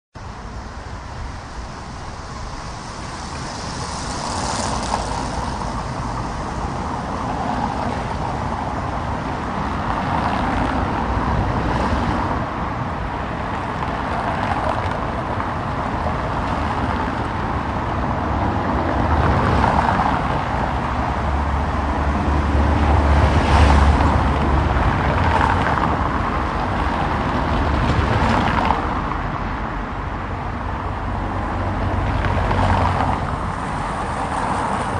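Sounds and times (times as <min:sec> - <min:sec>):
cars passing: 0:00.2 - 0:34.9
tyre and engine noise: 0:00.2 - 0:34.9.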